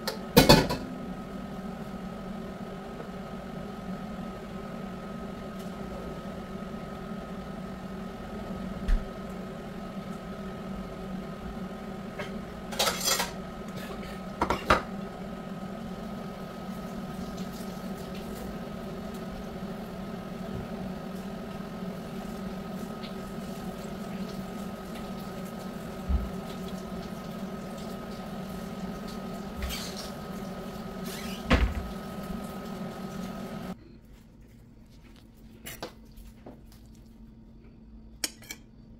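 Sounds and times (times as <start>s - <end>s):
machine hum: 0.0s - 38.9s.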